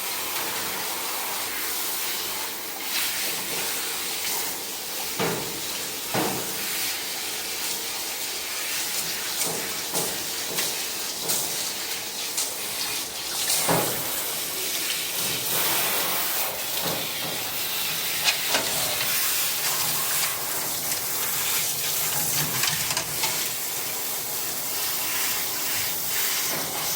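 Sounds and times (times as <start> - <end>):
water spraying: 0.0 - 26.9.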